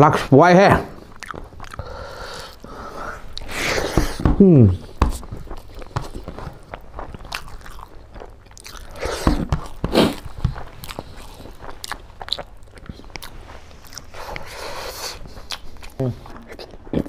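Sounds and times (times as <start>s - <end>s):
man chewing food: 0.8s - 17.0s
wet mouth noises: 0.9s - 17.0s.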